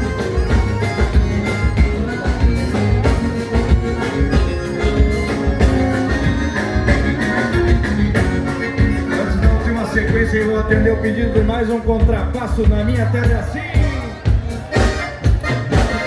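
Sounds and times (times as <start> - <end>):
accordion: 0.0 - 16.0
bass: 0.0 - 16.0
driving drum beat: 0.0 - 16.0
guitar: 0.0 - 16.0.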